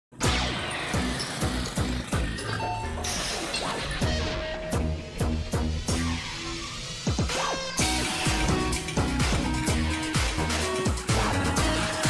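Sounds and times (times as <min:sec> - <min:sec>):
background music with heavy drum beat: 0:00.2 - 0:02.4, 0:04.0 - 0:06.4, 0:07.0 - 0:12.0.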